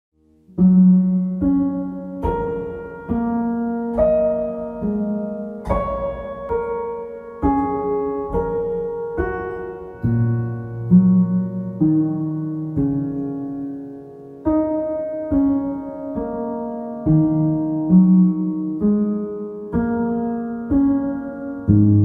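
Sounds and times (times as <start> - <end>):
slow calm piano music: 0.2 - 22.0.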